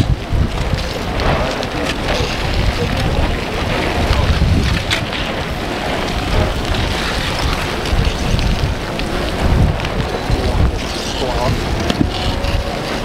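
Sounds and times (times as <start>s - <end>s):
lava crust cracking clicks: 0.0s - 13.0s
wind rumbling on microphone: 0.0s - 13.0s.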